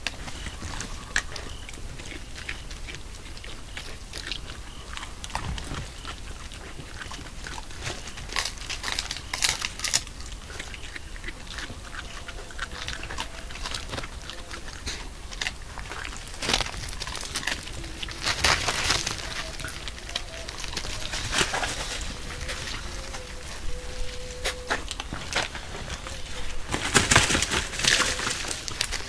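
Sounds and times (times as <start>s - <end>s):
animals chewing dry bones: 0.0s - 29.0s.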